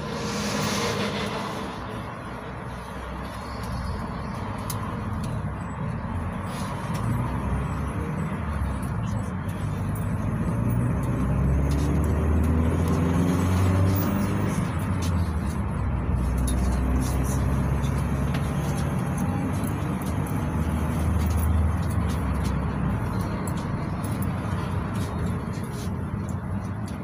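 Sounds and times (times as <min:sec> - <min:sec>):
minibus engine droning: 0:00.0 - 0:27.0
tyre and road noise: 0:00.0 - 0:27.0.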